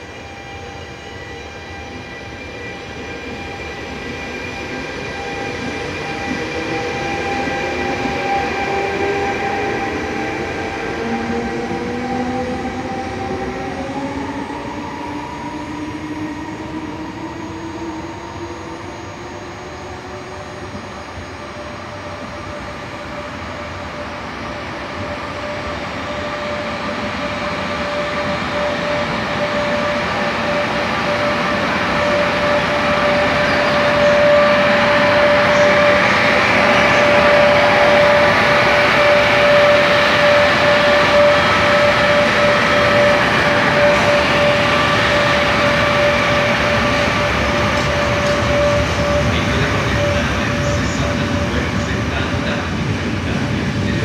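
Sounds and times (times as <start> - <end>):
electric train rumble and hiss: 0.0 - 54.0.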